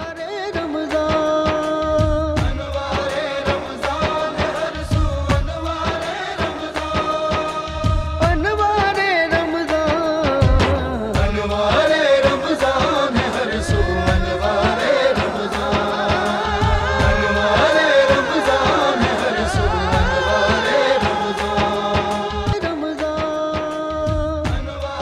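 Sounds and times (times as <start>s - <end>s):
percussion beat: 0.0s - 25.0s
wavering sung vocal: 0.0s - 25.0s.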